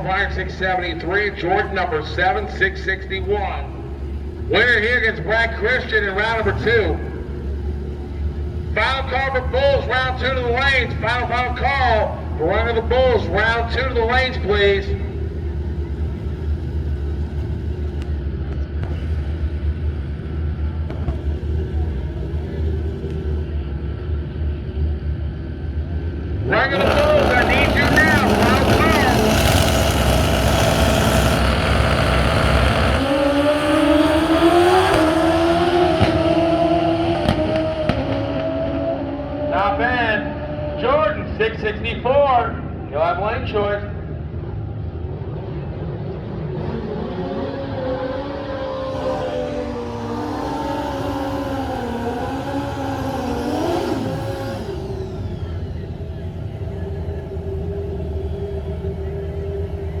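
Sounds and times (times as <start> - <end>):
low engine rumble: 0.0 - 36.5, 39.6 - 60.0
motorcycles at full throttle: 0.0 - 42.9, 43.8 - 60.0.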